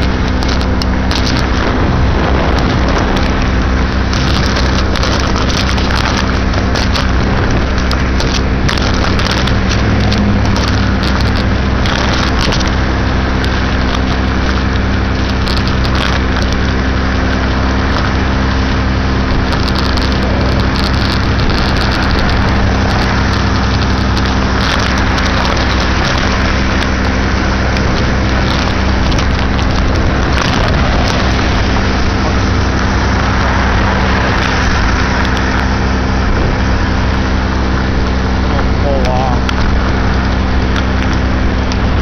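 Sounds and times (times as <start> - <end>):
moped engine droning: 0.0 - 42.0
road noise: 0.0 - 42.0
wind rush: 0.0 - 42.0.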